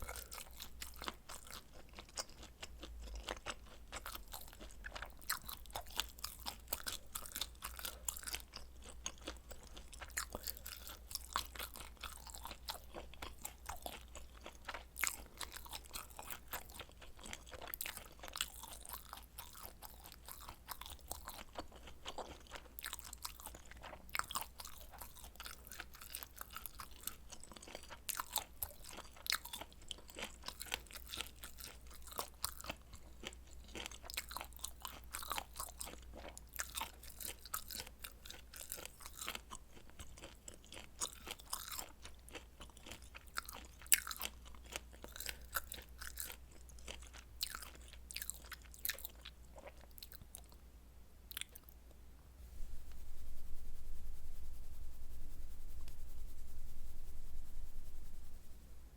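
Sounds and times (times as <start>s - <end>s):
person chewing crunchy food: 0.0s - 50.6s, 51.3s - 51.8s.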